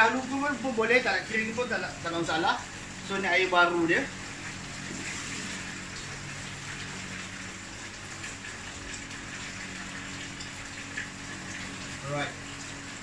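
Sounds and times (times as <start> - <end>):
water running into a sink: 0.0 - 13.0.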